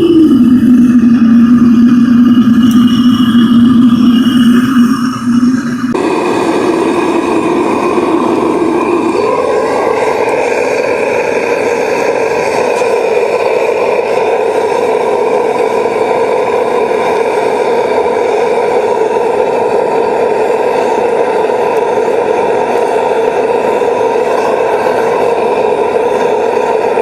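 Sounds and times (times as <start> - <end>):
furnace roaring with whine: 0.0 - 27.0.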